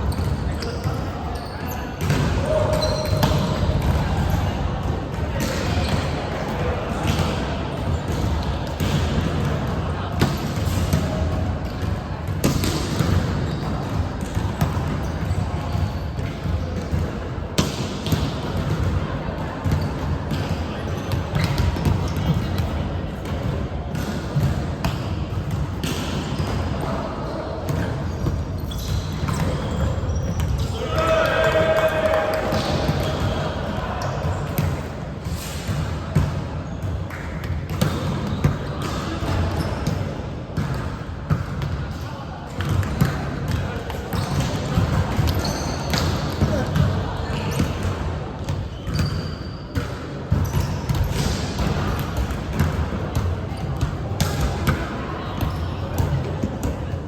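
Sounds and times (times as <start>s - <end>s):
low hubbub of hall: 0.0s - 57.0s
players and spectators voices: 0.0s - 57.0s.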